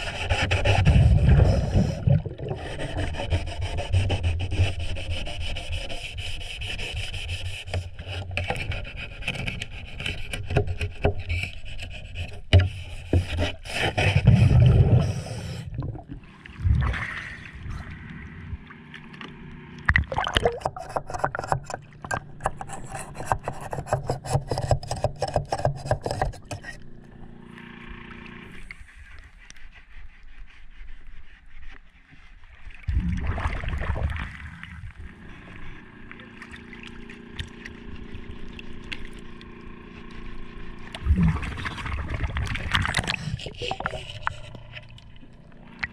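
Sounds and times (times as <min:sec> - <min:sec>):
scraping metal underwater: 0:00.0 - 0:33.2, 0:33.8 - 0:45.9.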